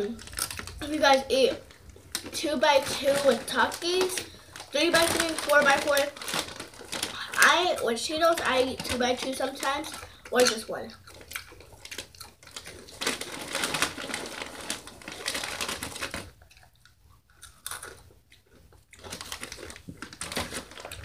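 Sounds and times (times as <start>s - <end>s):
chips being chewed loudly: 0.0s - 21.0s.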